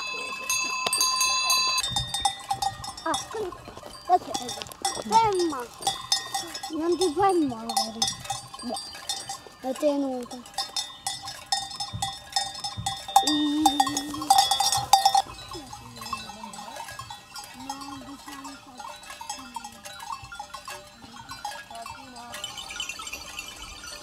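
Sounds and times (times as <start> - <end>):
livestock bells clanking: 0.0 - 24.0.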